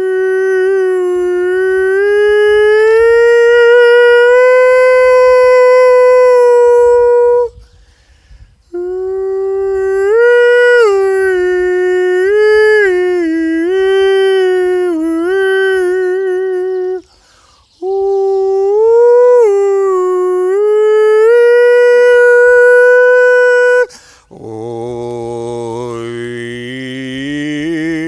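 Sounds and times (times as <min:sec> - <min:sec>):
man singing without words: 0:00.0 - 0:07.6, 0:08.7 - 0:17.1, 0:17.8 - 0:28.0.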